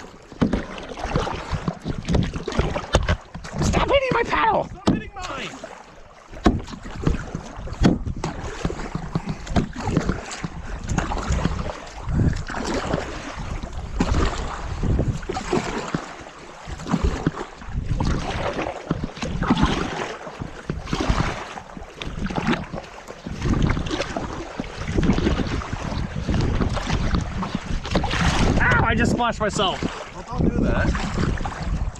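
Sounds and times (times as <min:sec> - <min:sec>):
wind buffeting microphone: 0:00.0 - 0:05.5, 0:06.3 - 0:31.9
paddles splashing through water: 0:00.0 - 0:31.9.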